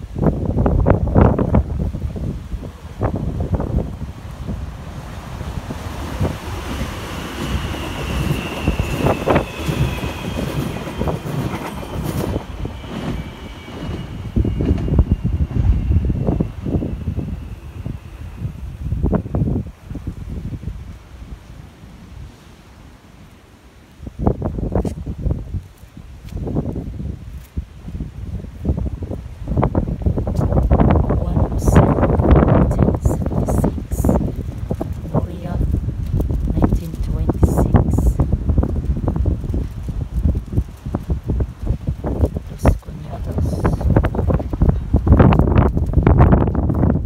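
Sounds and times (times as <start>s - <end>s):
high whine of electric train: 0.0s - 47.0s
wheels rumbling on rails: 0.0s - 47.0s
wind buffeting microphone: 0.0s - 47.0s.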